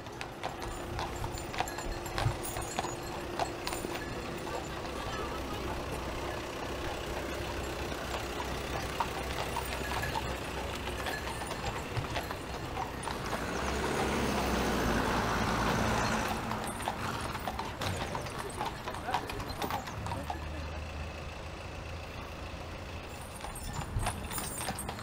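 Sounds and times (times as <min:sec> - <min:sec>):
horse hooves clip-clopping on asphalt: 0:00.0 - 0:25.0
vehicle passing: 0:00.3 - 0:25.0.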